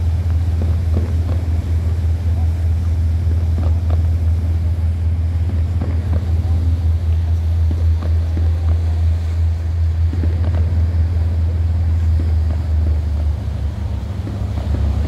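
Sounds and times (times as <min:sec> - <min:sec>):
ship engine drone: 0:00.0 - 0:15.0
wind on microphone: 0:00.0 - 0:15.0.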